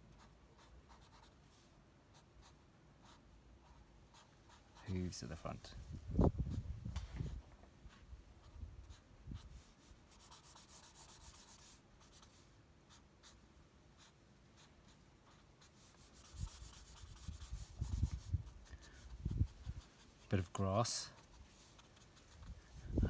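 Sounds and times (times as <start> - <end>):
marker pen scratching on paper: 0.1 - 1.4, 2.1 - 5.1, 7.2 - 13.4, 14.0 - 23.0.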